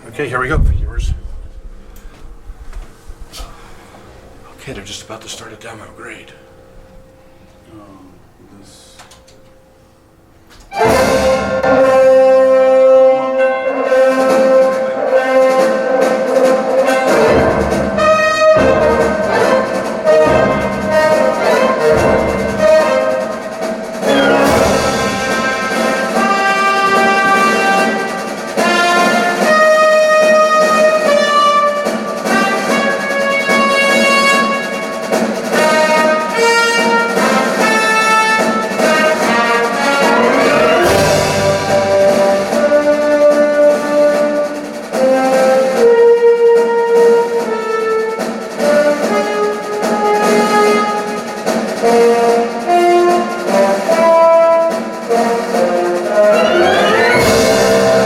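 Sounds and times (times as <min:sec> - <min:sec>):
orchestral music with brass: 0:10.7 - 0:58.0.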